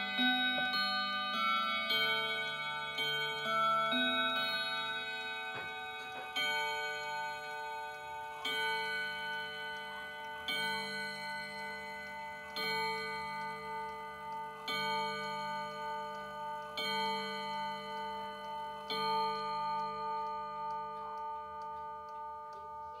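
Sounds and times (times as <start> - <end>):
clock ticking: 0.0 - 23.0
wall clock striking: 0.0 - 23.0.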